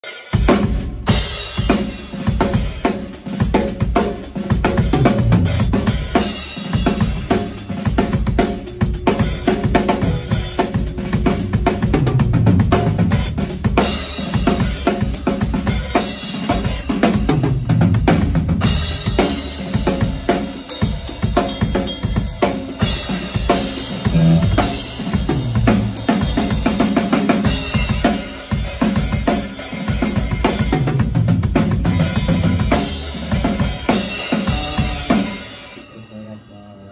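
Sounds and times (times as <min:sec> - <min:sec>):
drum kit playing: 0:00.0 - 0:36.7.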